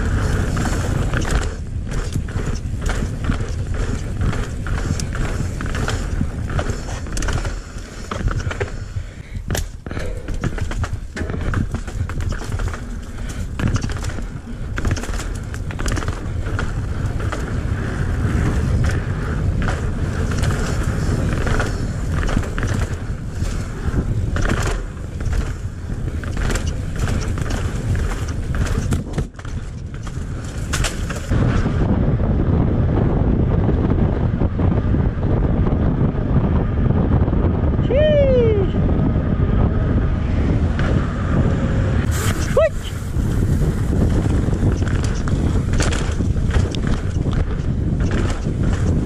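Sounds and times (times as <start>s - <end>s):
bike tyres rolling on pavement: 0.0s - 38.1s, 38.8s - 49.0s
bike rattling over bumps: 0.0s - 49.0s
wind on microphone: 0.0s - 49.0s.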